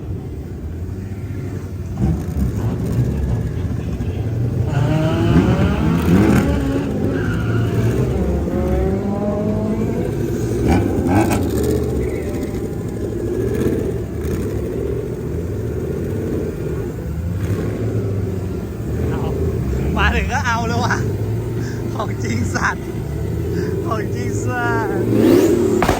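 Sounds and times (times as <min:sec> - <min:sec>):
car engines revving hard: 0:00.0 - 0:25.9.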